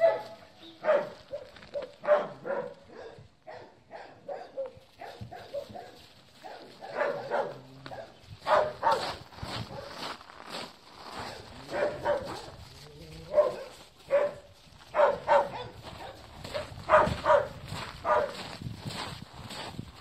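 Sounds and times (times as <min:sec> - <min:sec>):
dogs barking and yipping: 0:00.0 - 0:10.0, 0:11.1 - 0:18.6.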